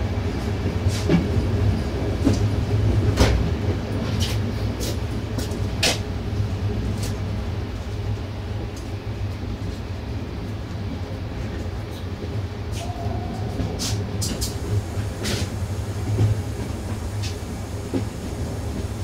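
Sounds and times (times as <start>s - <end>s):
diesel locomotive rumble: 0.0s - 19.0s
train wheels clicking on rails: 0.0s - 19.0s.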